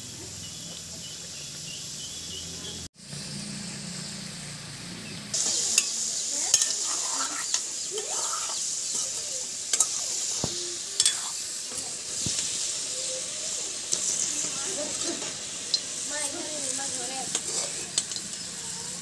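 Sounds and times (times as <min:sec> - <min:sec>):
spice mixture sizzling and bubbling: 0:00.0 - 0:19.0.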